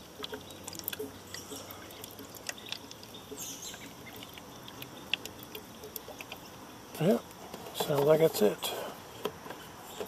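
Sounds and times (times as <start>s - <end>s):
liquid dripping and gurgling: 0.0s - 8.2s.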